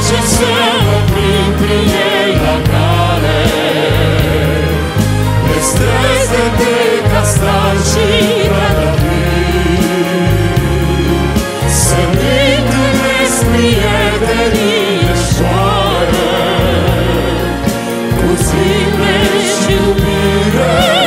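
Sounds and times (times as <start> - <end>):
male vocal quartet singing: 0.0 - 21.0
symphony orchestra: 0.0 - 21.0.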